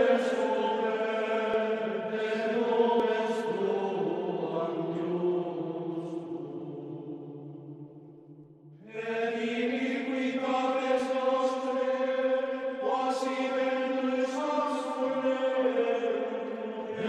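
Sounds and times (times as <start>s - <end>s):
choral chant sustained notes: 0.0s - 17.0s.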